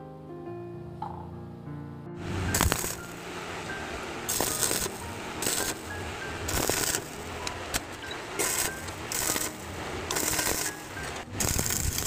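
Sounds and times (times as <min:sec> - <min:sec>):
stick welder crackling: 0:02.2 - 0:12.0.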